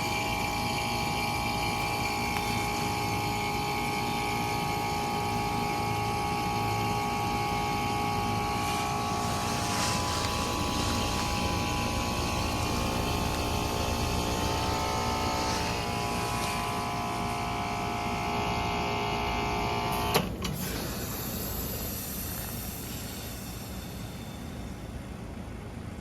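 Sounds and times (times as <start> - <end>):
refrigerant hiss: 0.0 - 25.4
heat pump whine and hum: 0.0 - 26.0.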